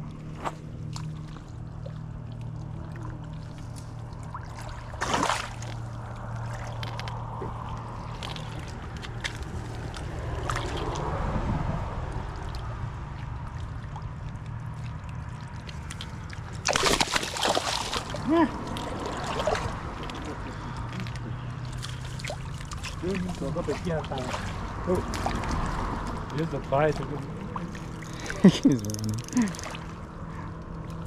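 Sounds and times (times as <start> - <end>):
low motor hum: 0.0 - 31.0
water sloshing and trickling: 0.0 - 31.0
water splash: 0.4 - 30.0.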